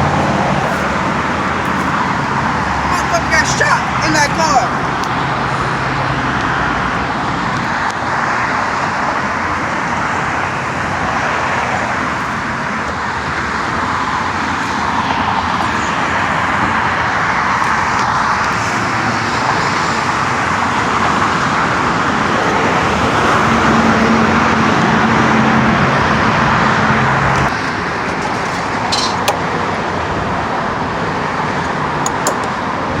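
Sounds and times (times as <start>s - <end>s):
road traffic rush: 0.0s - 33.0s.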